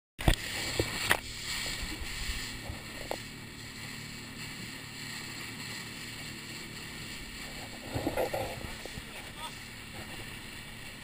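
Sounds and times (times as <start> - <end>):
boat engine running: 0.2 - 11.0
water rushing: 0.2 - 11.0.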